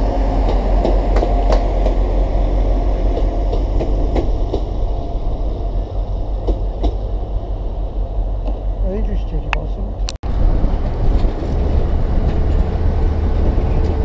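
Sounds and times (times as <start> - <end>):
train engines rumbling: 0.0 - 14.0.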